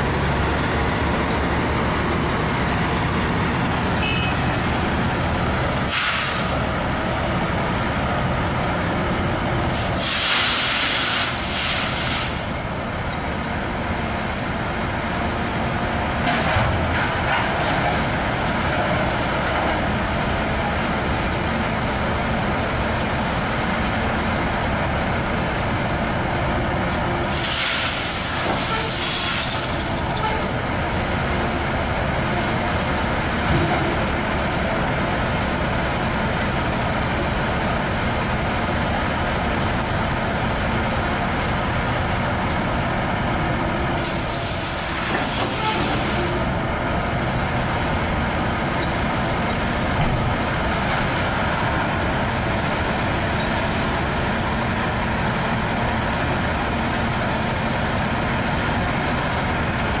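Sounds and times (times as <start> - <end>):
diesel engines running: 0.0 - 60.0.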